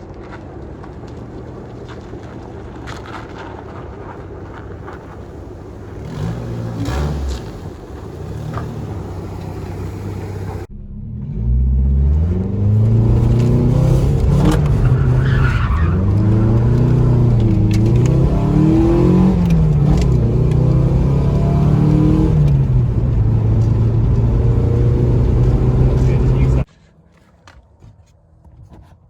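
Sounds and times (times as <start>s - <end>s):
car engine revving: 0.8s - 26.7s.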